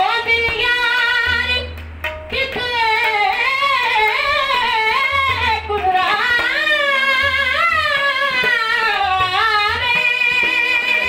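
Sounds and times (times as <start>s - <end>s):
low instrumental accompaniment: 0.3s - 11.0s.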